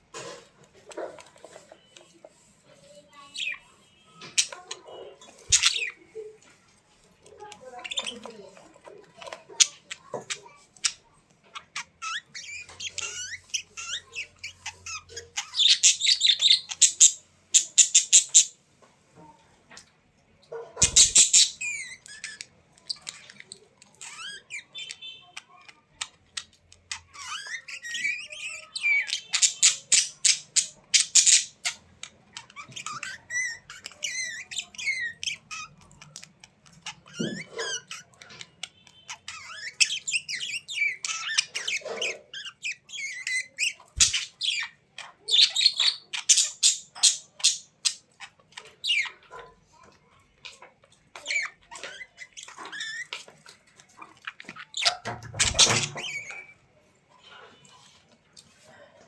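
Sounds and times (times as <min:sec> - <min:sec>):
pet birds chirping and squawking: 0:00.0 - 0:59.0.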